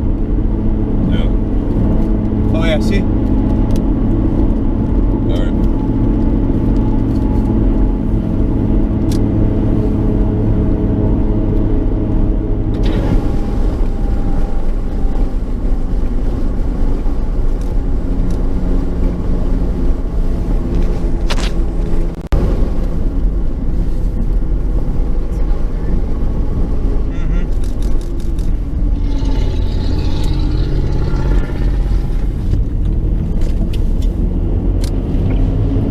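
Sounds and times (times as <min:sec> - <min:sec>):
car engine hum: 0:00.0 - 0:35.9
road rumble: 0:00.0 - 0:35.9.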